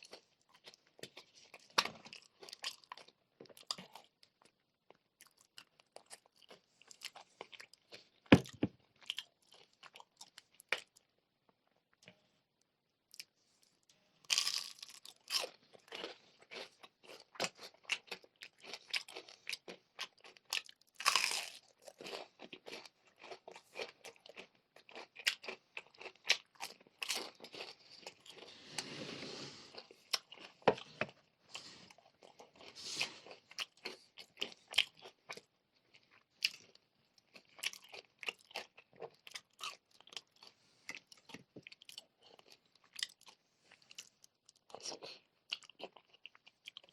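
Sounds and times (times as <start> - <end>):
crunching bites and chewing: 0.0 - 11.1, 14.2 - 28.6, 29.7 - 46.9.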